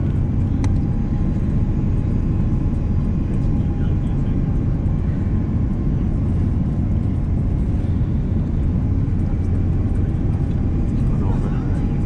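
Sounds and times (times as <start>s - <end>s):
airplane cabin rumble: 0.0s - 12.0s
faint steady whine: 0.0s - 12.0s.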